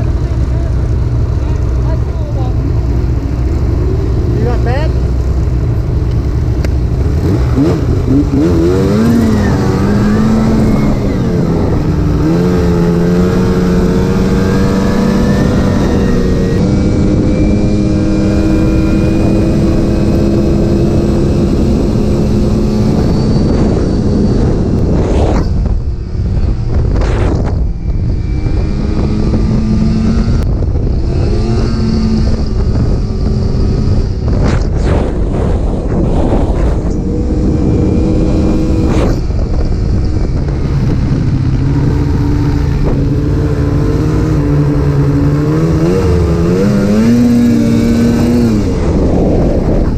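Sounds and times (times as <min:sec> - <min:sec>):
snowmobile engine accelerating: 0:00.0 - 0:49.9
wind rumble on microphone: 0:00.0 - 0:49.9.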